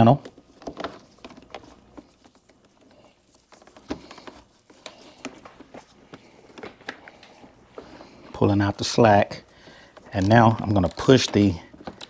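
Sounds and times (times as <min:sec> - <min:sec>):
faint clicks and rustling: 0:00.1 - 0:12.0.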